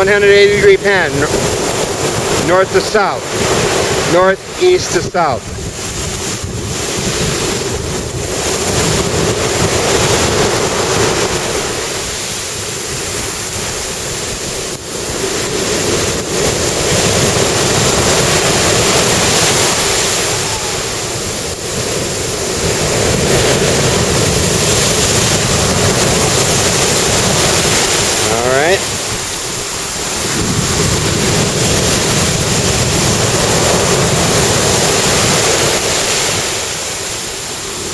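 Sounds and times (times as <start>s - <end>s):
surf breaking on sandy beach: 0.0s - 37.9s
wind gusting on microphone: 0.0s - 37.9s.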